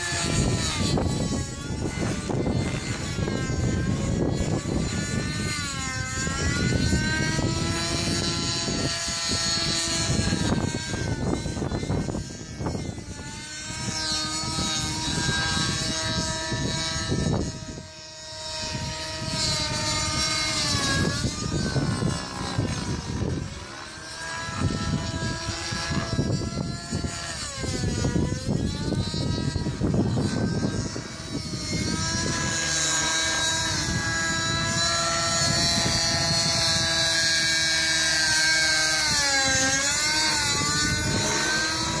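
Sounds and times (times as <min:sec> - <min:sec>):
model helicopter engine and rotors: 0:00.0 - 0:42.0.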